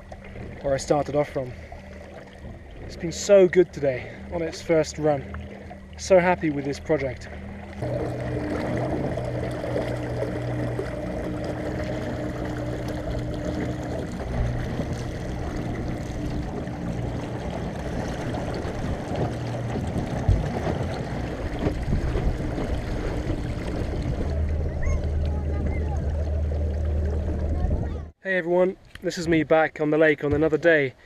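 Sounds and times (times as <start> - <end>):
water rushing along hull: 0.0 - 31.0
low bump: 1.4 - 28.1
electric motor hum: 1.5 - 28.1.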